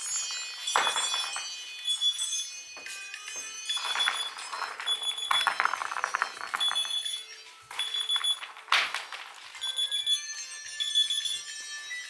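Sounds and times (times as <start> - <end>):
alarm bell ringing: 0.0 - 8.6, 9.5 - 12.0
electronic alarm beeps: 0.1 - 12.0.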